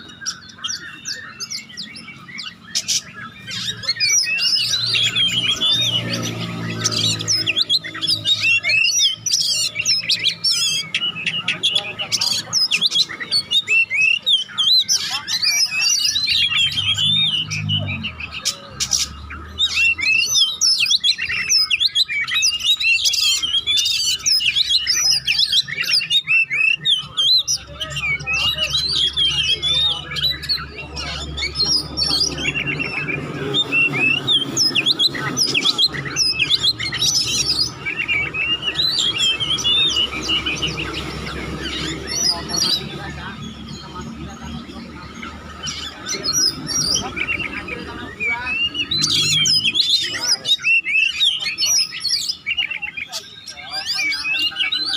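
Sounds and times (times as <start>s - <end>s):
bird singing chirps and whistles: 0.0s - 54.9s.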